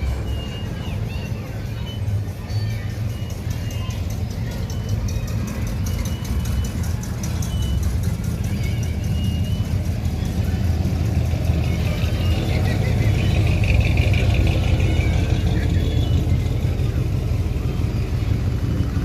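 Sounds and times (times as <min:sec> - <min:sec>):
car and truck engines rumbling: 0:00.0 - 0:19.0.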